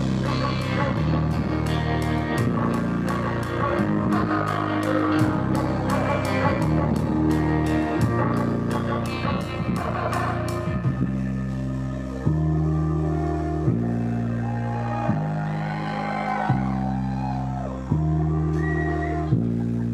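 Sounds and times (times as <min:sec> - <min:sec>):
bass guitar: 0:00.0 - 0:19.9
electric guitar: 0:00.0 - 0:19.9.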